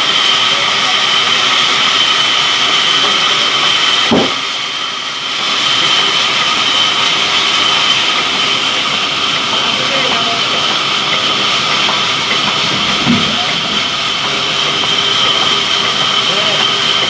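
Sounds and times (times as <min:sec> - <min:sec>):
sawmill saw whining: 0:00.0 - 0:17.0.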